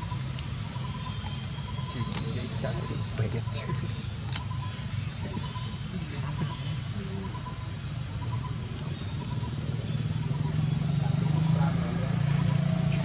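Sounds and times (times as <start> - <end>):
faint pulsing call: 0.0 - 13.0
insects droning: 0.0 - 13.0.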